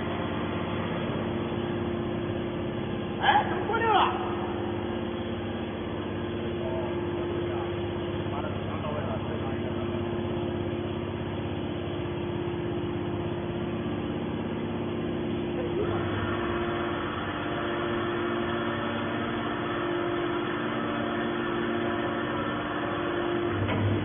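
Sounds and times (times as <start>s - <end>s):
hydraulic motor humming: 0.0s - 24.0s.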